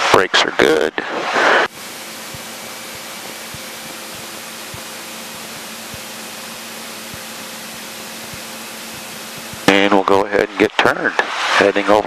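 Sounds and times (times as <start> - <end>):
headset audio hiss: 0.0 - 12.0
faint aircraft engine hum: 0.6 - 11.4.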